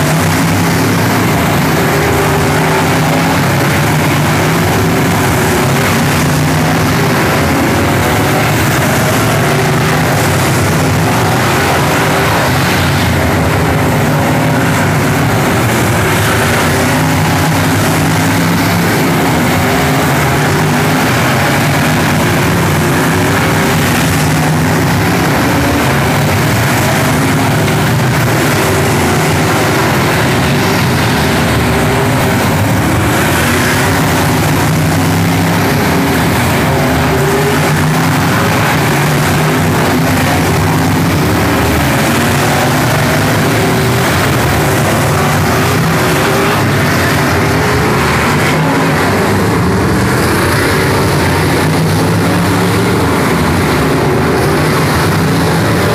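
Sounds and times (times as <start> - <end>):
race car engines: 0.0 - 55.9.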